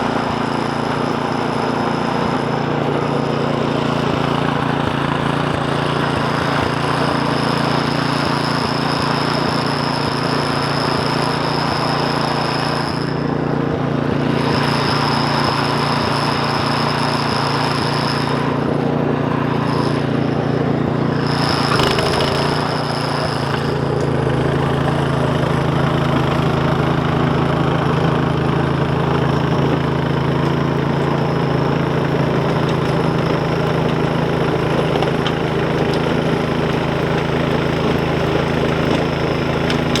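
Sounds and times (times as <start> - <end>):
small gasoline engine running: 0.0 - 40.0.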